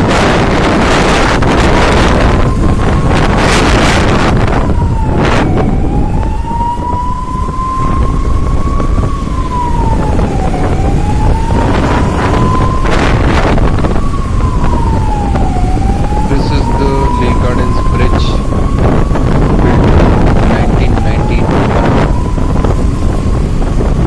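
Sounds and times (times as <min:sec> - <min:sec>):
siren wailing: 0:00.0 - 0:24.0
wind rush on microphone: 0:00.0 - 0:24.0.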